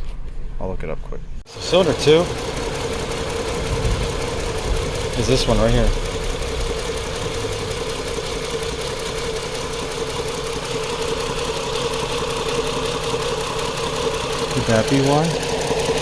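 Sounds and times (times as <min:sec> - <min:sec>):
misfiring car engine idling: 0:01.5 - 0:16.0.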